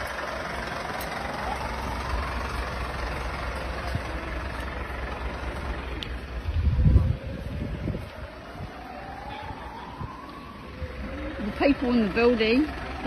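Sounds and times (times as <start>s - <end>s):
fire engine idling: 0.0s - 13.0s
street noise: 0.0s - 13.0s.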